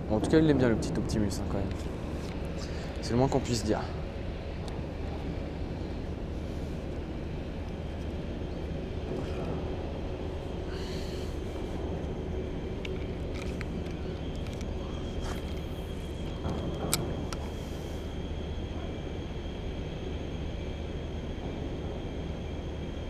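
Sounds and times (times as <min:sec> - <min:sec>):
faint hum: 0:00.0 - 0:23.0
low mechanical rumble: 0:00.0 - 0:23.0.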